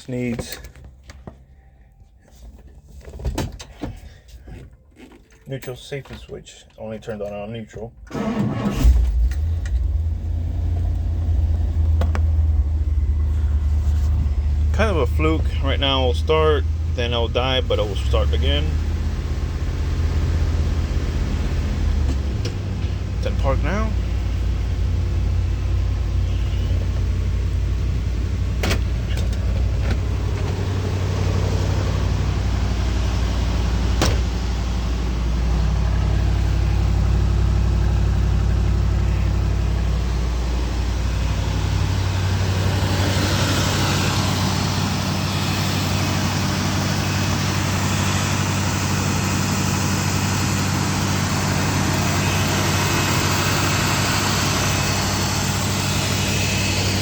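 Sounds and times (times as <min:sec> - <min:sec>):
car engine idling: 0:06.5 - 0:57.0.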